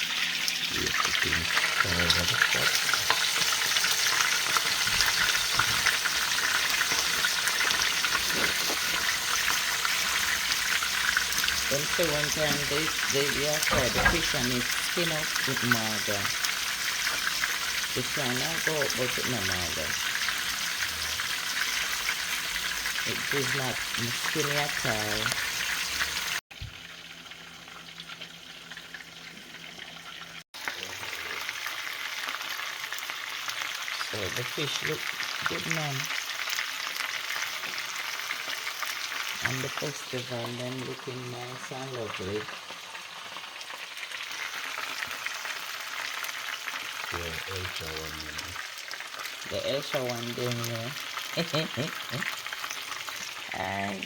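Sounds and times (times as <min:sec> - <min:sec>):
food sizzling in hot oil: 0:00.0 - 0:54.0
oil crackling and popping: 0:00.0 - 0:54.0.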